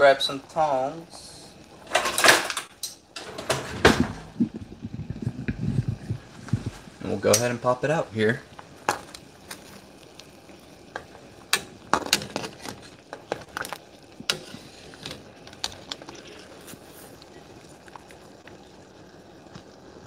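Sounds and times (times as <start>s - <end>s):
boiling water bubbling: 0.0s - 20.0s.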